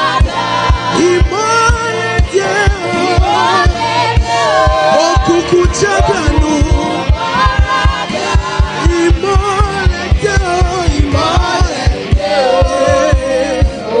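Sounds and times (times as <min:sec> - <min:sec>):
fast drum beat: 0:00.0 - 0:14.0
gospel singing: 0:00.0 - 0:14.0.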